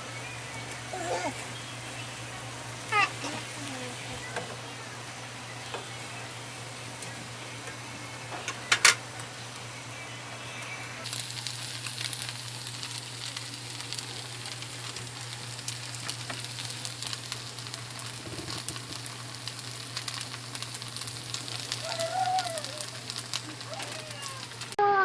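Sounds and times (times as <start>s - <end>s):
food sizzling in a pan: 0.0s - 24.8s.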